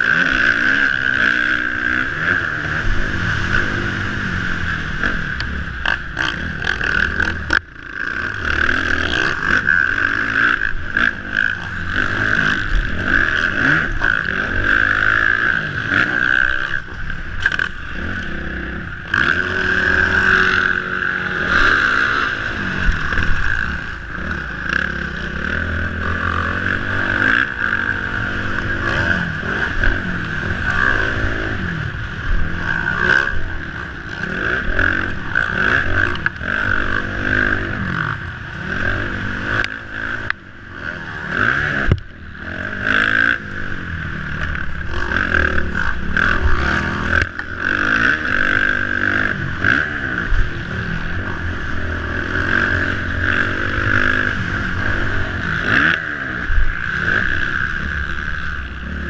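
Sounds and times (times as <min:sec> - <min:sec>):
dirt bike engine revving: 0:00.0 - 0:59.0
steady rushing noise: 0:00.0 - 0:59.0.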